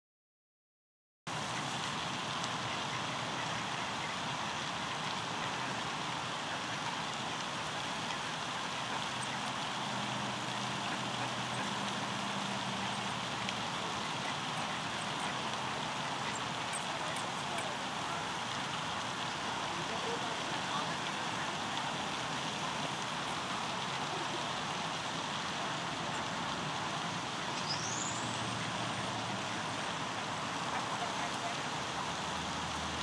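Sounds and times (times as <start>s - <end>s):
steady rushing outdoor noise: 1.3s - 33.0s.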